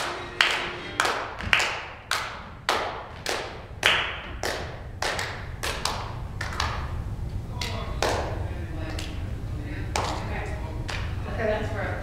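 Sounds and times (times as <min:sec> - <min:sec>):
people clapping in echoing hall: 0:00.0 - 0:09.2, 0:09.9 - 0:11.2.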